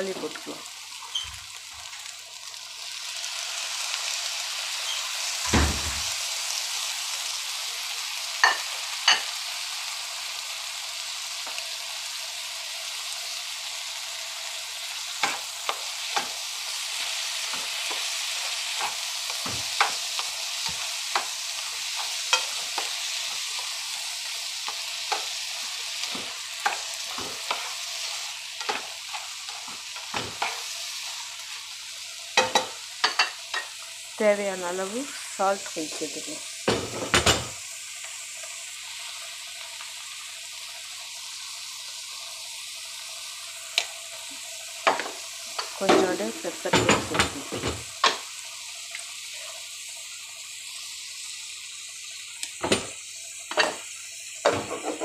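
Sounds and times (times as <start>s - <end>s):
tomatoes sizzling in a pan: 0.0s - 55.0s.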